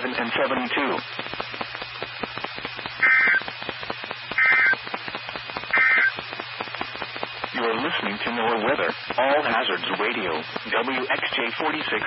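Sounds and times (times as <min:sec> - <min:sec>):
buzzy digital data bursts: 0:00.0 - 0:12.0
radio static crackling: 0:00.0 - 0:12.0.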